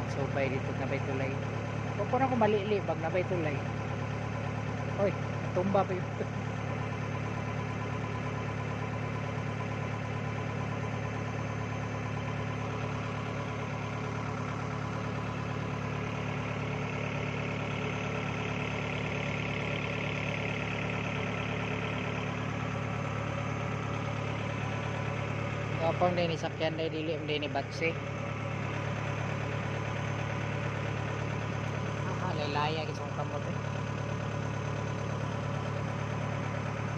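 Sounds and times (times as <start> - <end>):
vehicle engine running steadily: 0.0 - 36.9.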